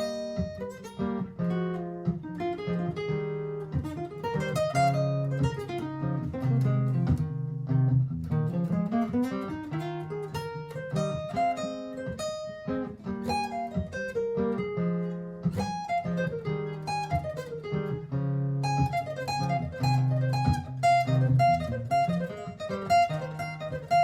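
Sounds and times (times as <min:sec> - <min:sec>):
plucked guitar notes: 0:00.0 - 0:24.0
strummed guitar chords: 0:00.0 - 0:24.0.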